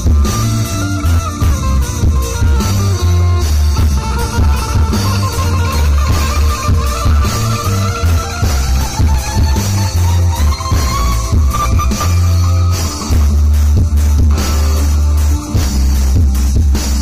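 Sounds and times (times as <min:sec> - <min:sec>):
hand drum: 0:00.0 - 0:16.7
bass guitar: 0:00.0 - 0:17.0
electric guitar: 0:00.0 - 0:17.0
heavy pulsing bass beat: 0:00.0 - 0:17.0.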